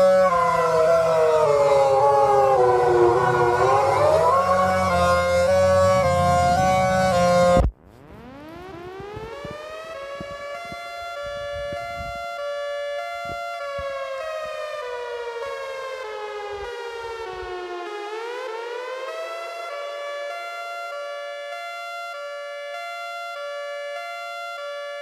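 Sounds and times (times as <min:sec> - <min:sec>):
tornado warning siren: 0:00.0 - 0:25.0.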